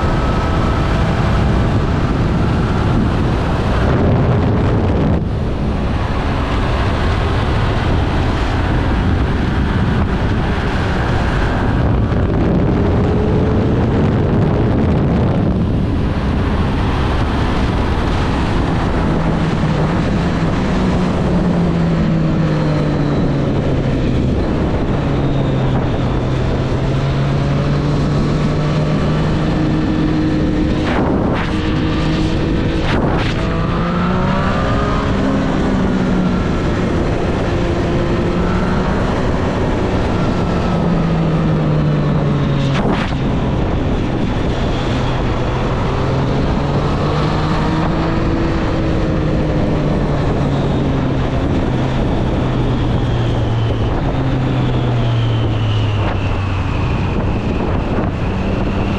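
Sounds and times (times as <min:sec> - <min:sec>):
wind rush: 0:00.0 - 0:58.9.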